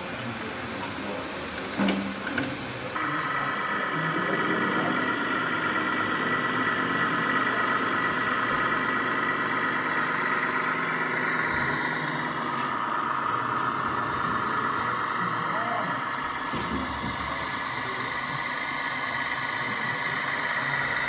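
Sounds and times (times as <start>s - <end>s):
model machine motor whine: 0.0s - 21.0s.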